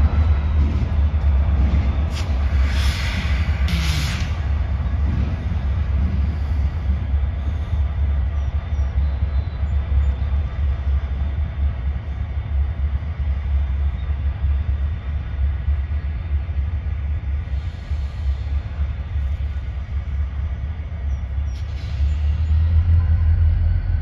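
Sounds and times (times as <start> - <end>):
diesel locomotives rumbling: 0.0 - 24.0.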